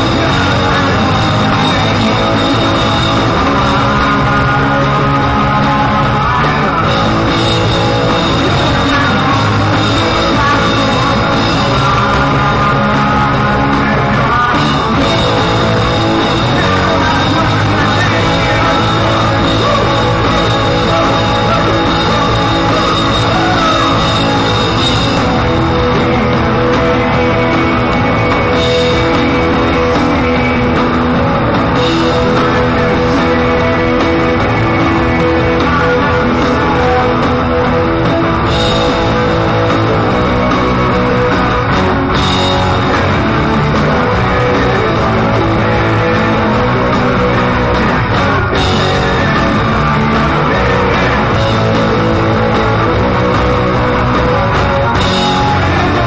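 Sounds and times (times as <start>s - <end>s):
drum kit: 0.0s - 56.0s
rock band playing loudly: 0.0s - 56.0s.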